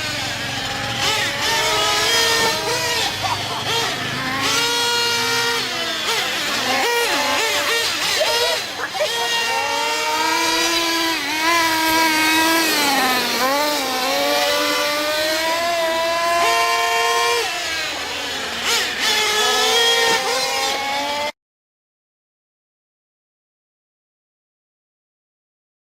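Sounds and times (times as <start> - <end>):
small engines whining and revving: 0.0 - 21.4.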